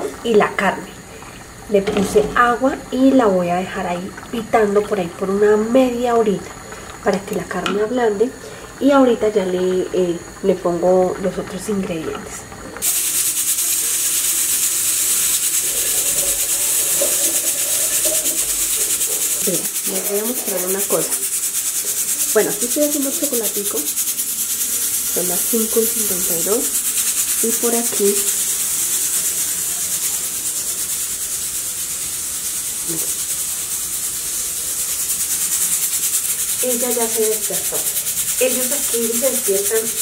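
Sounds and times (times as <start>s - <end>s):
pressure cooker hissing steam: 0.0s - 40.0s.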